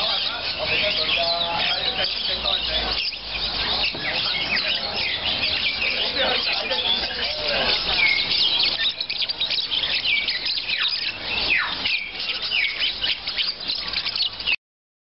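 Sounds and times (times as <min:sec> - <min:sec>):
songbirds chirping and whistling: 0:00.0 - 0:14.6.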